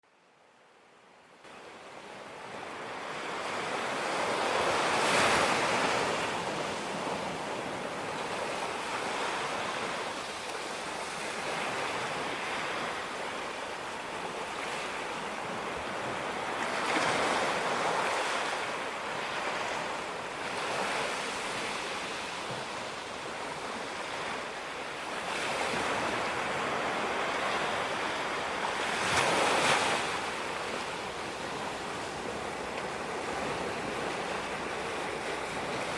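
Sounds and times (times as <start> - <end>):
waves breaking on beach: 1.4 - 35.9.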